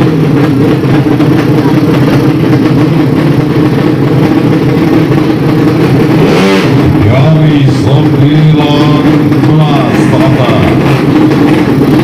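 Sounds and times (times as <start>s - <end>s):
motorcycle engine idling loudly: 0.0s - 12.0s.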